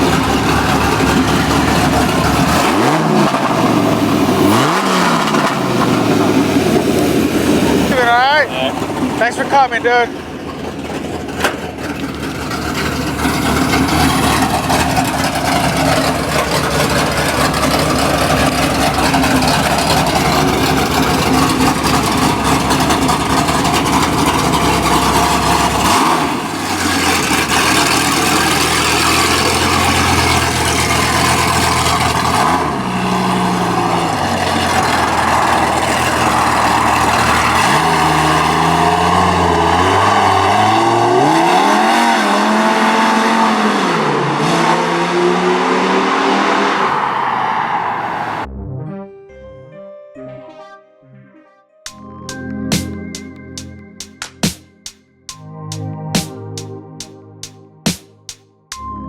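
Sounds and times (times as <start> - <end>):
truck engine revving: 0.0 - 48.5.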